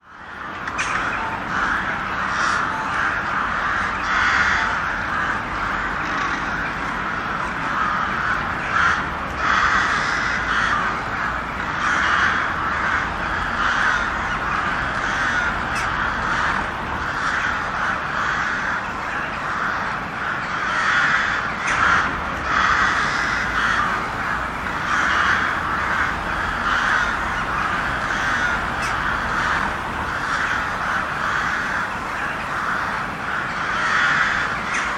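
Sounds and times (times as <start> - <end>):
crows cawing: 0.0 - 34.9.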